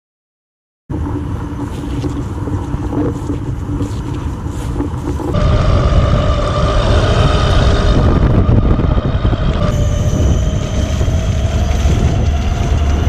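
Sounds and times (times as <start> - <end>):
car engine humming: 0.9 - 13.0.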